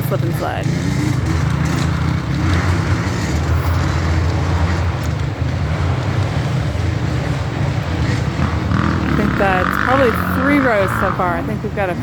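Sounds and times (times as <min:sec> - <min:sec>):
dirt bike engines droning: 0:00.0 - 0:12.0.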